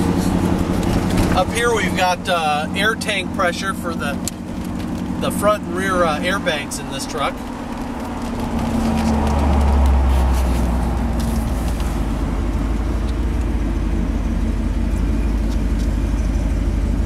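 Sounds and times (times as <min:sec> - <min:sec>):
engine rumble inside cab: 0:00.0 - 0:17.0
road noise: 0:00.0 - 0:17.0.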